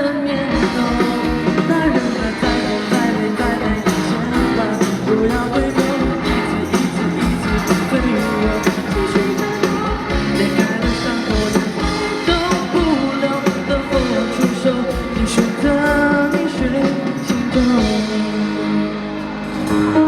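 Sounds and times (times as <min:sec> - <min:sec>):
guitar: 0:00.0 - 0:20.0
person singing: 0:00.0 - 0:20.0
drum beat: 0:00.7 - 0:18.2.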